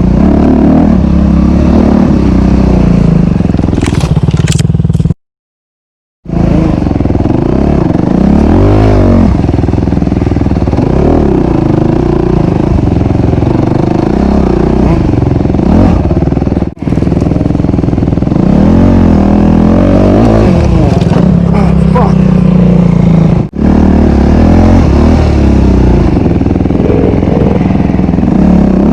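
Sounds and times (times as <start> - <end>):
motorcycle engine revving: 0.0 - 5.2, 6.2 - 28.9.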